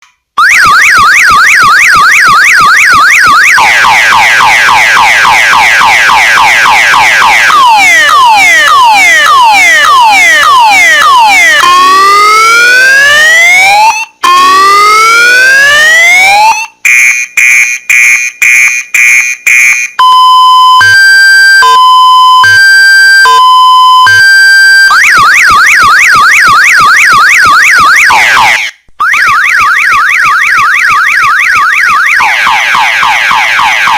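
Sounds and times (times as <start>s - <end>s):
car alarm siren: 0.4s - 18.7s, 19.7s - 33.9s.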